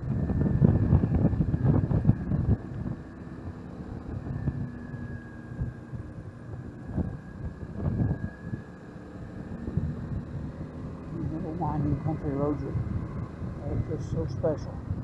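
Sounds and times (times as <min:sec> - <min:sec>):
faint motorbike engine hum: 0:00.0 - 0:15.0
wind buffeting microphone: 0:00.0 - 0:15.0.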